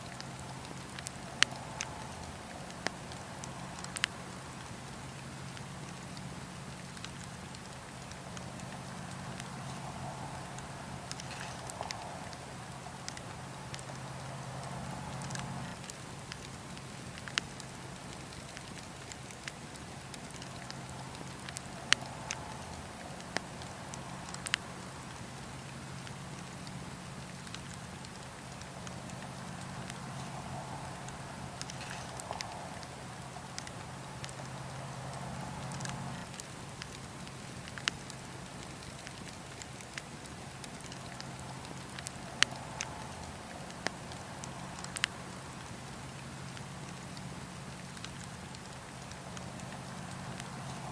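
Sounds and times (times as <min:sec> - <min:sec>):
campfire crackling and popping: 0:00.0 - 0:50.9
wood fire hissing: 0:00.0 - 0:50.9.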